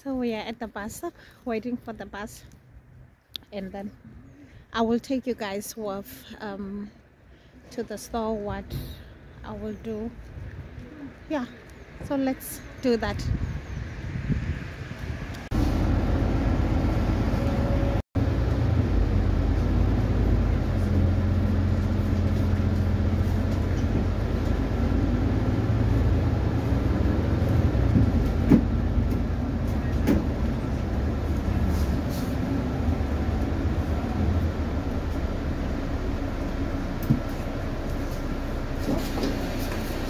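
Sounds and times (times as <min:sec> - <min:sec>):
road rumble: 0:00.0 - 0:40.0
bus engine drone: 0:06.6 - 0:40.0.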